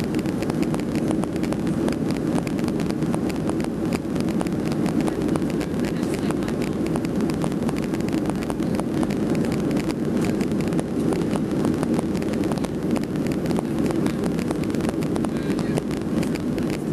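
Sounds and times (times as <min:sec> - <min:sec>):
jet engine cabin rumble: 0:00.0 - 0:16.9.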